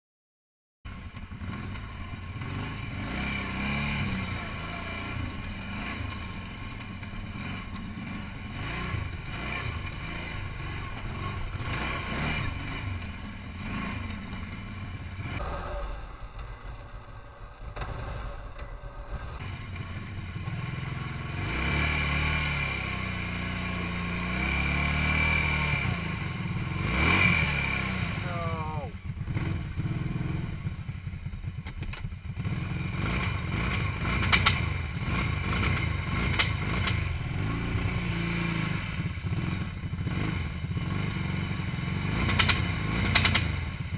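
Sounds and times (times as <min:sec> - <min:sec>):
quad bike engine revving: 0:00.9 - 0:43.9.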